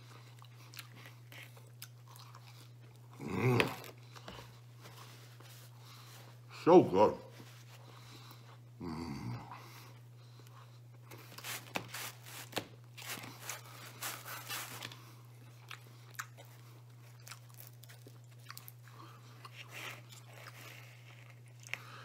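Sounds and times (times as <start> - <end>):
chewing pizza crust crunches: 0.0 - 6.4, 9.7 - 22.0
low electrical hum: 0.0 - 22.0.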